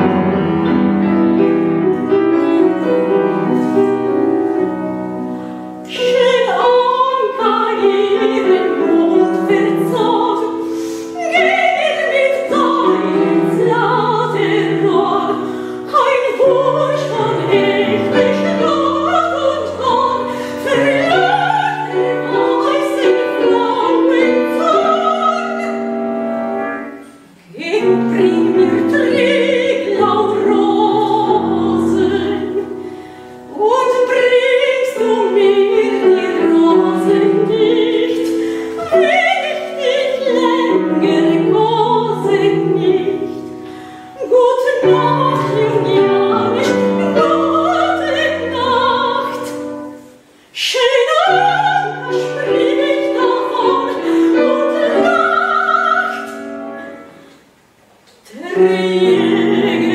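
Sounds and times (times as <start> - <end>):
grand piano: 0.0 - 59.9
woman singing operatically: 5.9 - 26.1, 27.5 - 32.8, 33.5 - 43.5, 44.1 - 49.8, 50.6 - 57.0, 58.3 - 59.9.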